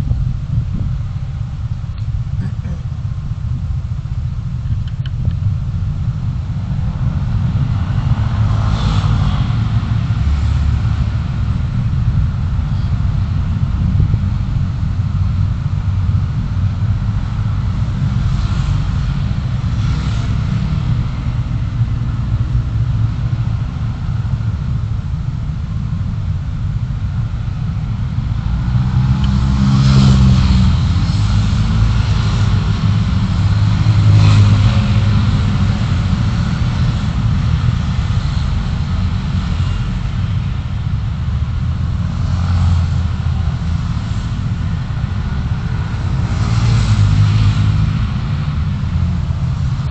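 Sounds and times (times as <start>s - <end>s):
car driving in traffic: 0.0s - 49.9s
passing traffic: 0.0s - 49.9s.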